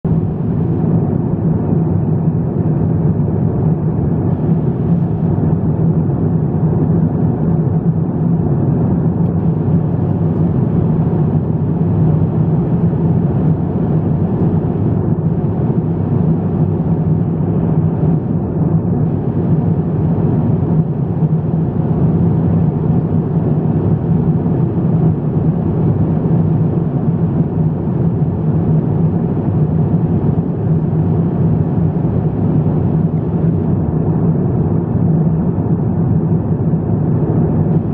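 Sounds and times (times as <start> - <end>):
constant low hum: 0.0 - 37.9
jet engines rumbling: 0.0 - 37.9.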